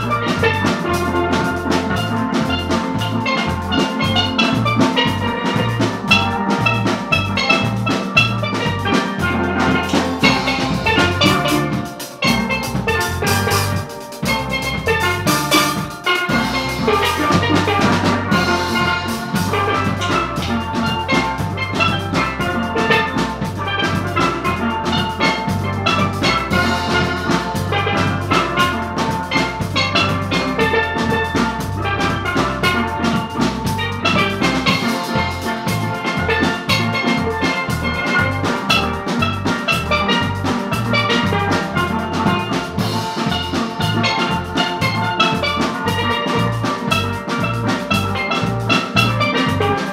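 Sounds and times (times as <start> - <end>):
drum kit: 0.0 - 49.9
electric bass guitar: 0.0 - 49.9
steel pans playing: 0.0 - 49.9.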